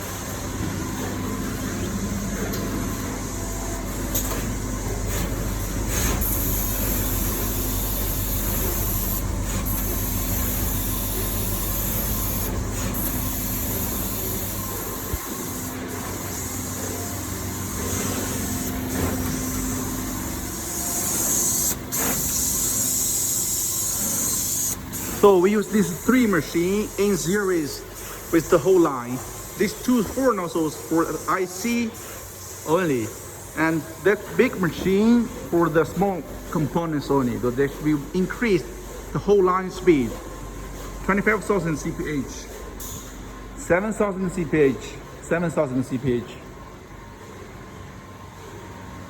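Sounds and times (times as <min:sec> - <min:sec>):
machines humming: 0:00.0 - 0:49.0.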